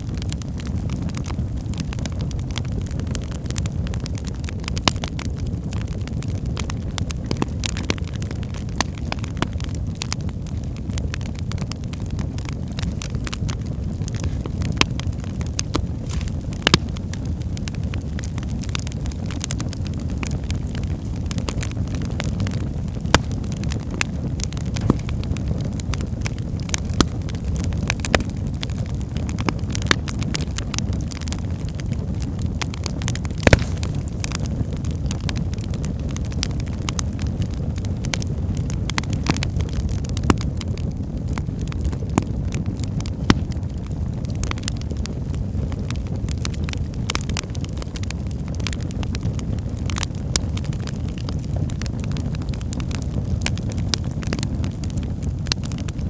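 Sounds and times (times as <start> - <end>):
logs crackling and popping: 0.0 - 56.0
low rumble of flames: 0.0 - 56.0.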